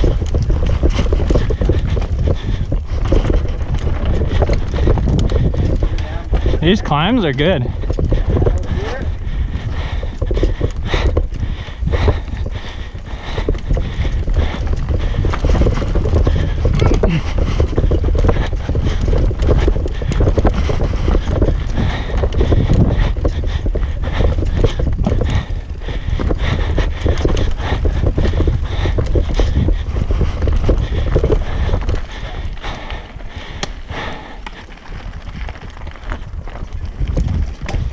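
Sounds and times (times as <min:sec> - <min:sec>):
bike clattering over rough trail: 0:00.0 - 0:37.9.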